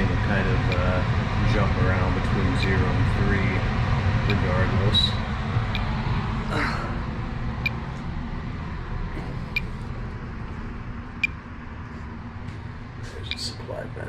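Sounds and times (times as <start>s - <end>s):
furnace blower rumble: 0.0s - 14.0s.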